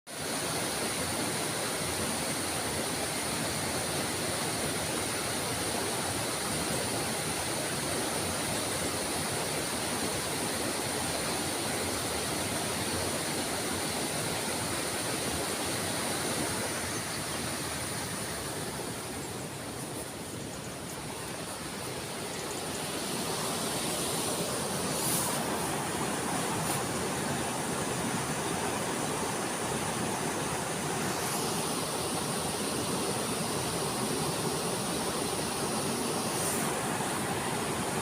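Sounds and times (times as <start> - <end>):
river water rushing: 0.1 - 38.0.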